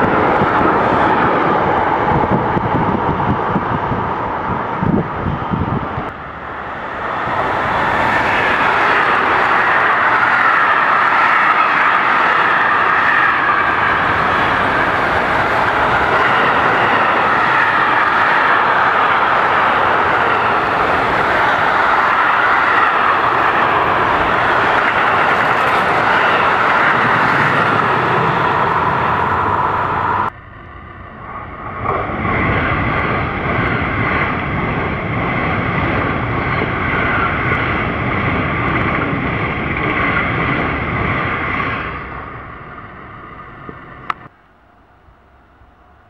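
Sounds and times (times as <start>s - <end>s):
freight train rolling past: 0.0s - 46.0s
high-speed train passing: 0.0s - 46.0s.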